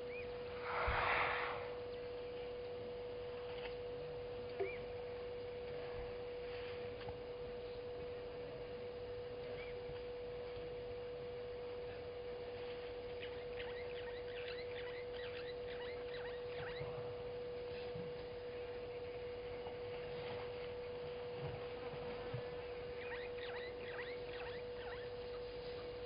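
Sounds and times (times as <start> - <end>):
birds twittering: 0.0 - 2.8, 4.3 - 5.6, 7.6 - 26.0
steady single-pitch tone: 0.0 - 26.0.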